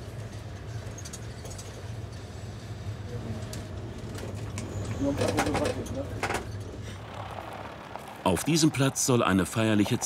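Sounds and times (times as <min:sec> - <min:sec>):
van engine and road noise: 0:01.9 - 0:10.0.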